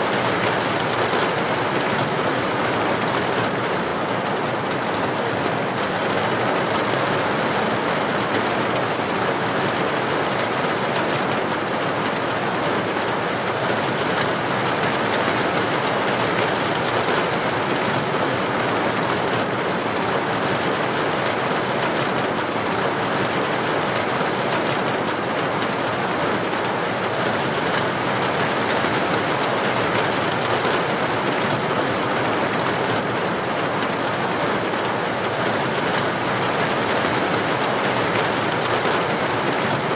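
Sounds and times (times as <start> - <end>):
heavy rain on a street: 0.0 - 39.9.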